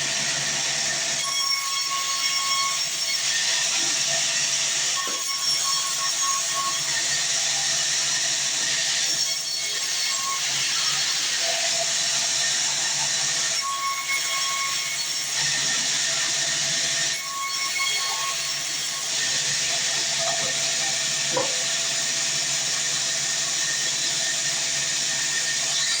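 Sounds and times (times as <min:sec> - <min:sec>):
sawmill saw cutting log: 0:00.0 - 0:26.0.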